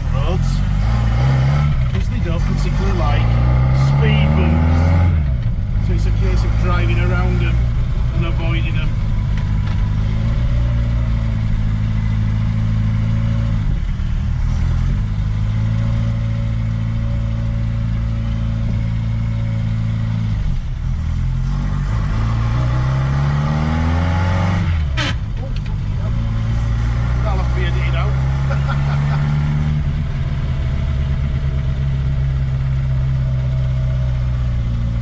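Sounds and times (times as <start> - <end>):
small car engine running: 0.0 - 35.0.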